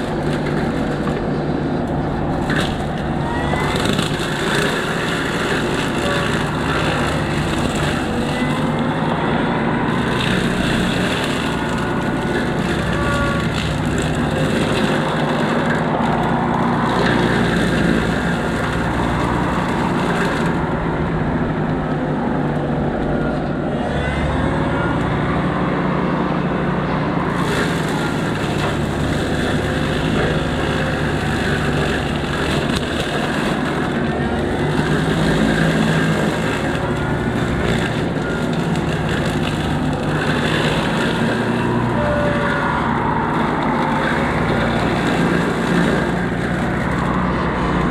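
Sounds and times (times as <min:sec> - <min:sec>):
brush cutter cutting brush: 0:00.0 - 0:20.8, 0:27.2 - 0:47.9
excavator engine under load: 0:00.0 - 0:47.9.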